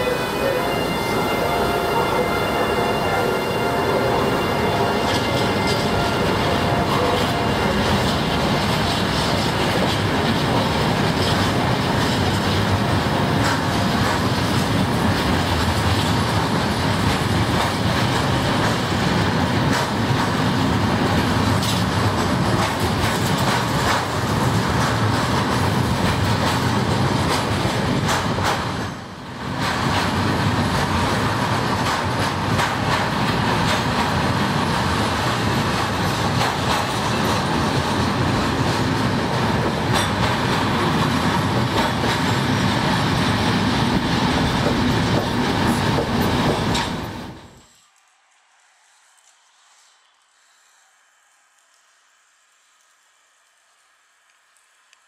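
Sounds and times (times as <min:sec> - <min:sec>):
freight train wheels rolling on rails: 0:00.0 - 0:55.0
faint clicks of train wheels: 0:04.3 - 0:55.0.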